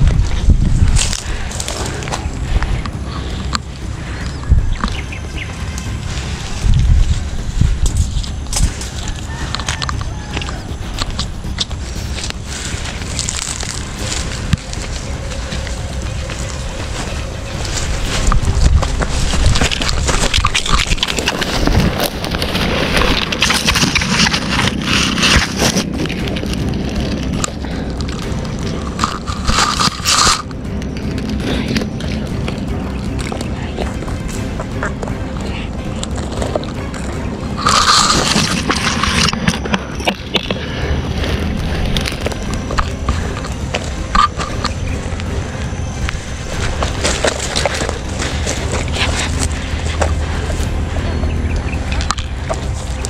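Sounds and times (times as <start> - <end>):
footsteps crunching through brush: 0.0 - 53.0
grass and dry leaves rustling: 0.0 - 53.0
low steady rumble: 0.0 - 53.0
twigs snapping: 0.0 - 53.0
wind buffeting microphone: 0.0 - 53.0.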